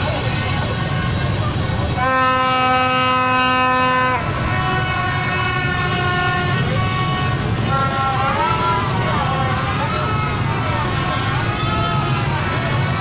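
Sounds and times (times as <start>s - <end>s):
horns blaring: 0.0s - 13.0s
low rumble of vehicles and crowd: 0.0s - 13.0s.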